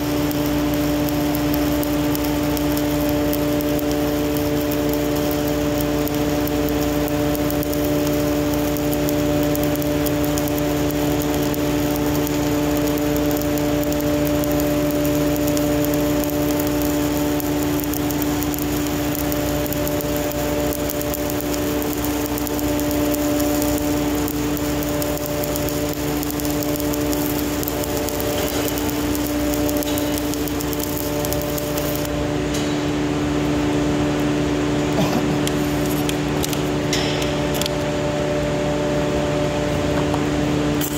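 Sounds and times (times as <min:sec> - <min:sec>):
machine drone: 0:00.0 - 0:40.9
welding arc hissing and crackling: 0:00.0 - 0:40.9.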